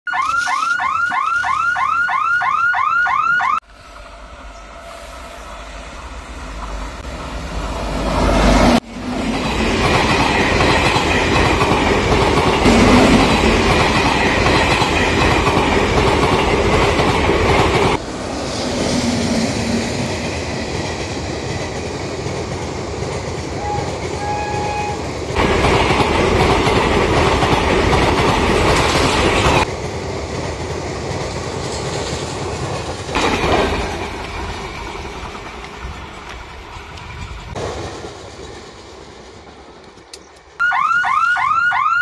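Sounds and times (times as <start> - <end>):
train passing close by: 3.6 - 40.6.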